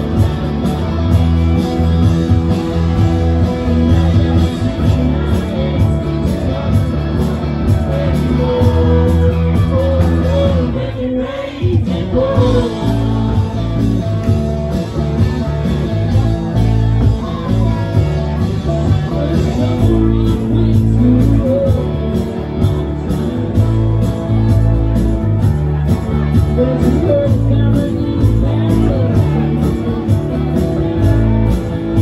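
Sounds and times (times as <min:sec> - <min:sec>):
drum kit beat: 0:00.0 - 0:32.0
electric bass: 0:00.0 - 0:32.0
electric guitar: 0:00.0 - 0:32.0
person singing: 0:00.0 - 0:32.0.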